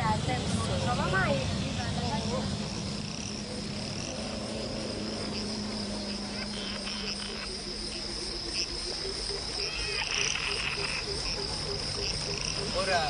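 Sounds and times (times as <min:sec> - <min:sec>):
high-pitched insect drone: 0:00.0 - 0:13.0
frog croaks: 0:02.1 - 0:13.0.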